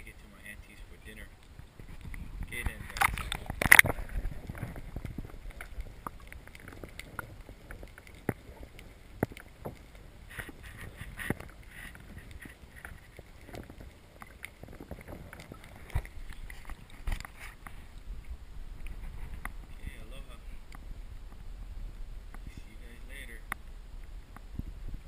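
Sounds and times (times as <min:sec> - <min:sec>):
water lapping and splashing: 0:00.0 - 0:25.0
wind rumble on microphone: 0:00.0 - 0:25.0.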